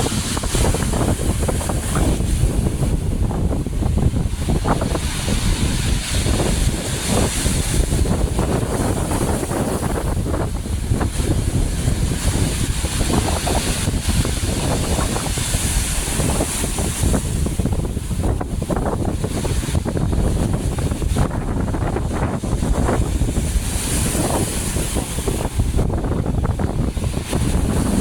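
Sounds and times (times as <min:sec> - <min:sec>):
strong wind buffeting microphone: 0:00.0 - 0:28.0.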